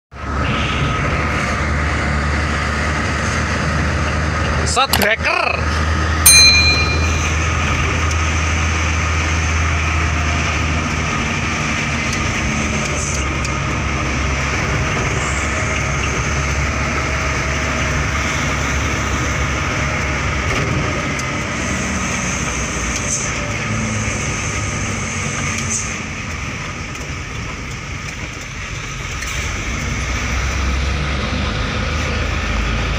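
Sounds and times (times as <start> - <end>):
diesel truck engine drone: 0.2 - 6.2, 6.8 - 32.9.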